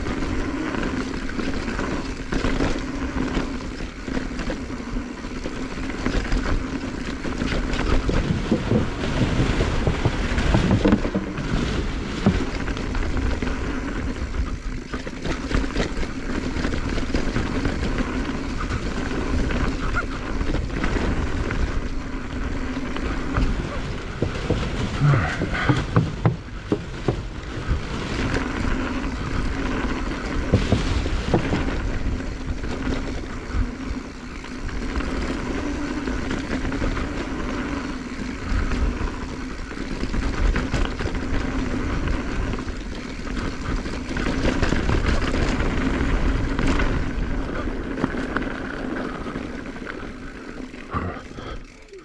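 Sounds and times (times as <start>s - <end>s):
bike knocks and rattles: 0.0s - 51.9s
tyres rumbling on dirt: 0.0s - 52.0s
wind buffeting microphone: 6.0s - 50.5s.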